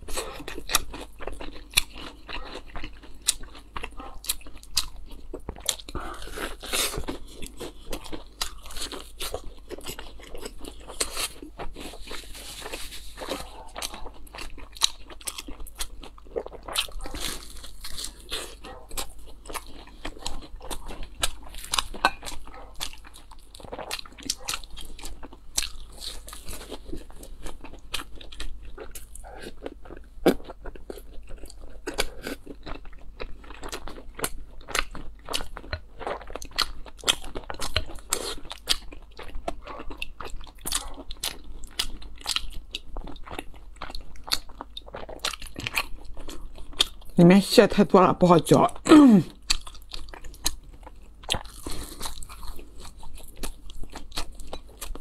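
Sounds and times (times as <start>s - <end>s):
crunchy chewing: 0.0s - 47.2s, 49.3s - 55.0s.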